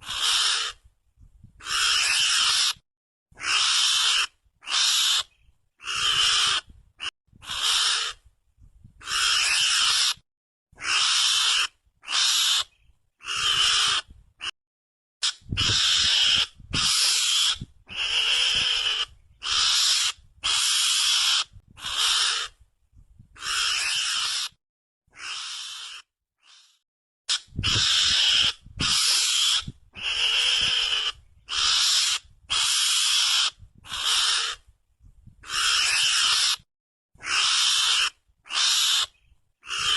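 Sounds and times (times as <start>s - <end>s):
harsh raspy animal lure calls: 0.0s - 0.8s, 1.6s - 2.8s, 3.4s - 8.2s, 9.0s - 10.2s, 10.8s - 14.5s, 15.2s - 22.6s, 23.4s - 34.6s, 35.4s - 39.9s.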